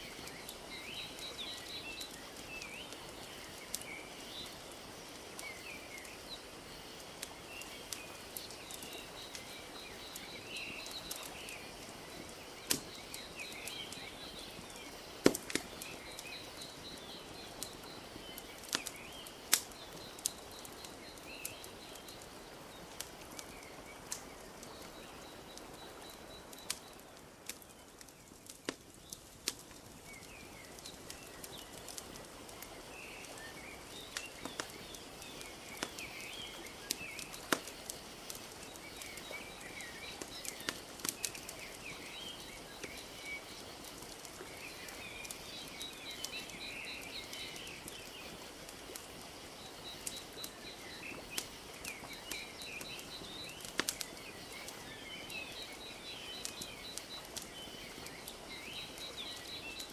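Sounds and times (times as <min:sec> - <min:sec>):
small birds chirping: 0:00.0 - 0:59.9
wood fire crackling: 0:00.0 - 0:59.9.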